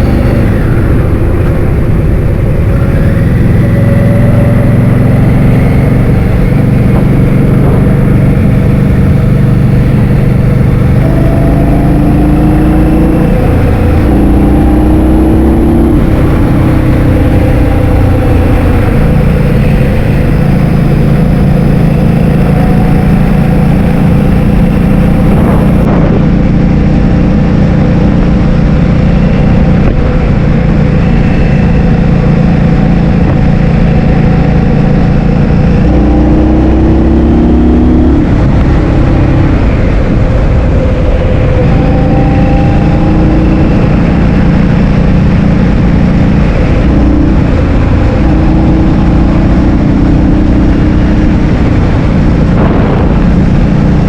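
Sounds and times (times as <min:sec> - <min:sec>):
scooter engine running: 0:00.0 - 0:54.0
wind buffeting microphone: 0:00.0 - 0:54.0.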